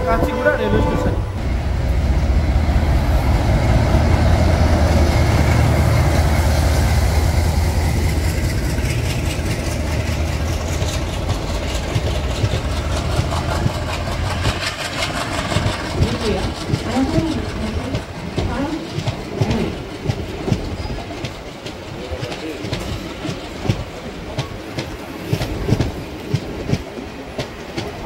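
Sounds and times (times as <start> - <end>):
diesel locomotive engine drone: 0.0 - 28.0
train wheels rattling on rails: 0.0 - 28.0.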